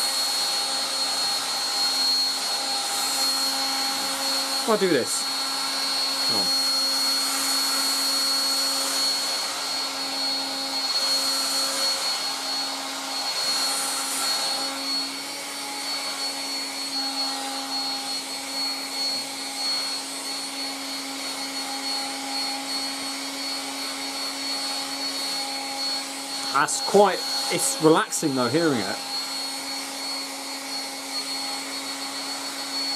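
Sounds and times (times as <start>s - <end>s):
hairdryer running: 0.0s - 32.9s.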